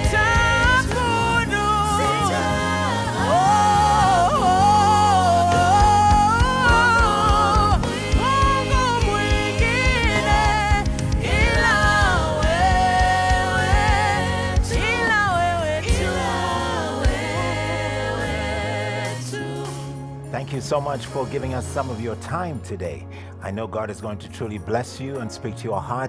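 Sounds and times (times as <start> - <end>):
person singing gospel song: 0.0 - 21.9.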